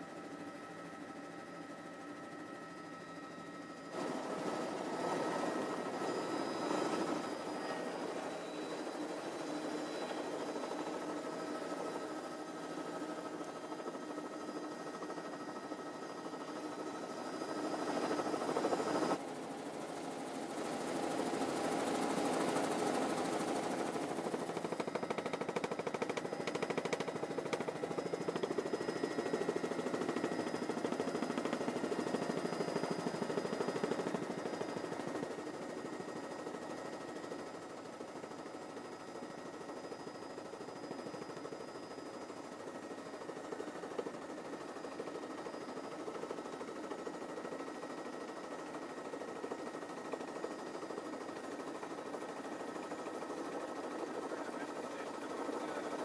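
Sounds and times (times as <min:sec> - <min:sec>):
helicopter whine: 0:00.0 - 0:56.0
helicopter rotor chop: 0:00.1 - 0:56.0.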